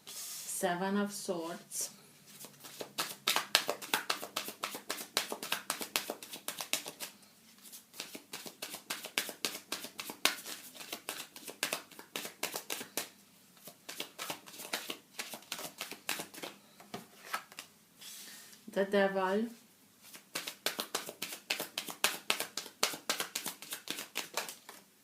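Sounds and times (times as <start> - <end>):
cards being shuffled: 2.3 - 17.7, 20.0 - 24.8.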